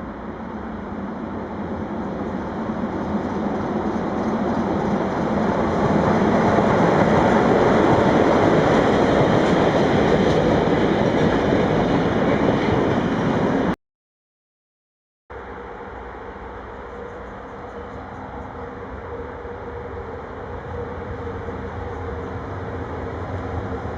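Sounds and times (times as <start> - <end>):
freight train rumbling on rails: 0.0 - 13.8, 15.3 - 23.9.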